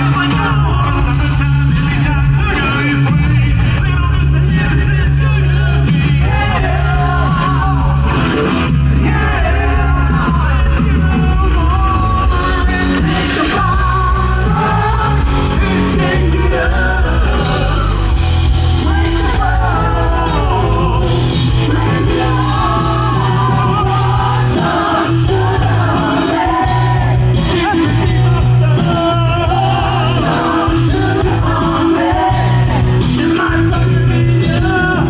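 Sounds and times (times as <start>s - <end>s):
rock song with lead singer: 0.0s - 35.0s.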